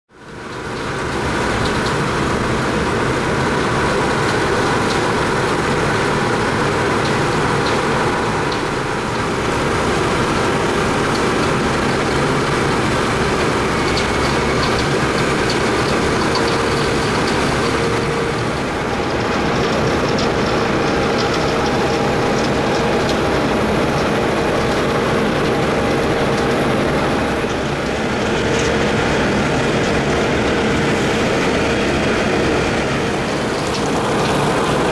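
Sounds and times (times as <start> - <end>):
milling machine grinding asphalt: 0.3 - 34.9.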